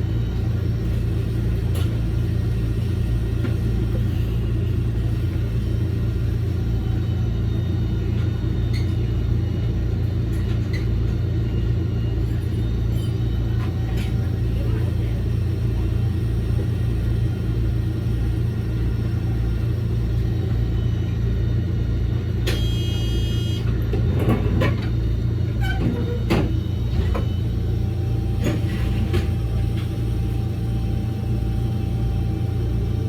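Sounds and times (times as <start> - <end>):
electric train rumbling on track: 0.0 - 33.0.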